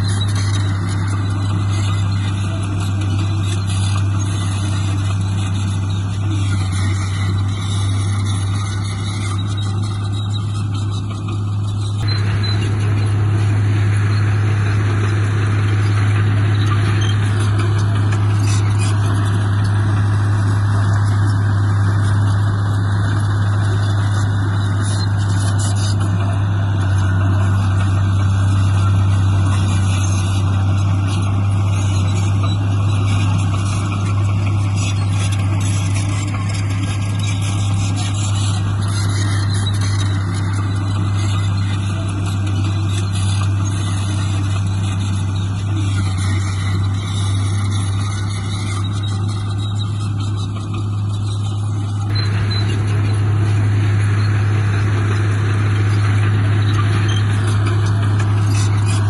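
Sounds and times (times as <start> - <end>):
heavy diesel machinery droning: 0.0 - 59.0.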